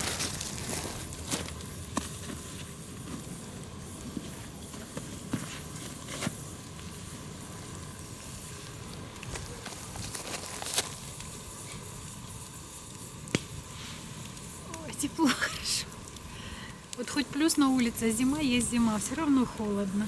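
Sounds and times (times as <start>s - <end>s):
frying pan sizzling: 0.0s - 6.4s, 7.0s - 20.0s
campfire crackling and popping: 0.0s - 20.0s.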